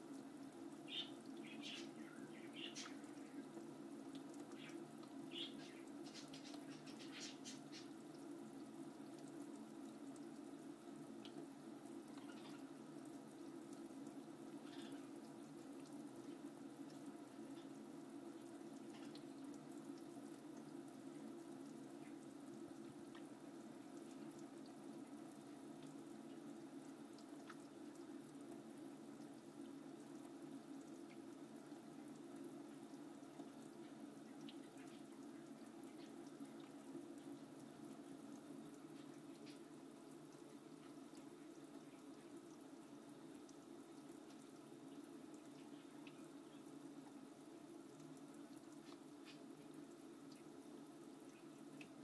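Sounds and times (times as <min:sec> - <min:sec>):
drip-like ticks: 0:00.0 - 0:52.0.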